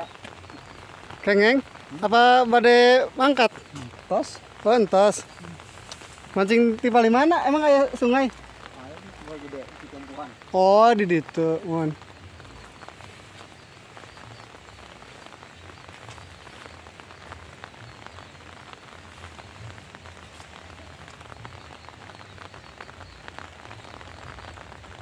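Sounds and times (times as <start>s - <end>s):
raindrop hits close by: 0.0s - 25.0s
steady rain falling: 0.0s - 25.0s.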